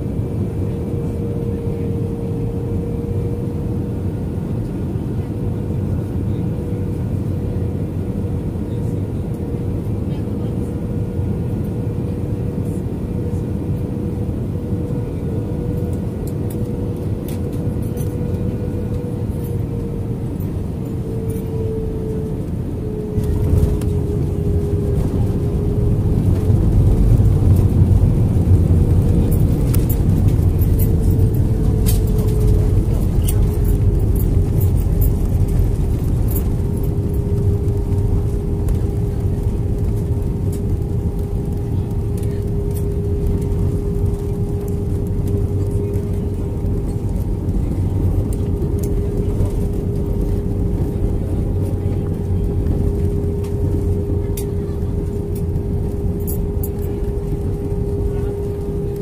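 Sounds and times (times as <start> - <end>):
airplane cabin engine hum: 0.0 - 59.0
airplane touchdown: 0.0 - 59.0
reverse thrust and runway rumble: 0.0 - 59.0.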